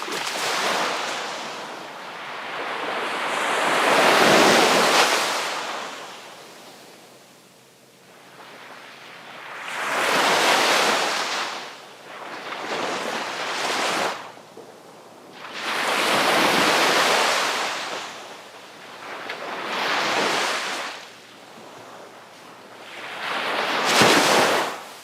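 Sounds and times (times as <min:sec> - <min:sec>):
sea waves breaking on shore: 0:00.0 - 0:06.7, 0:08.2 - 0:14.4, 0:15.3 - 0:25.0.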